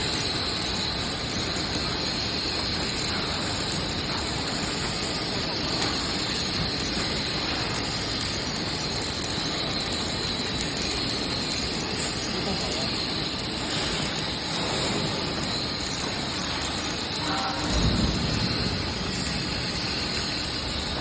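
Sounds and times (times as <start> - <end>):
baler mechanical noise: 0.0 - 21.0
high constant whine: 0.0 - 21.0.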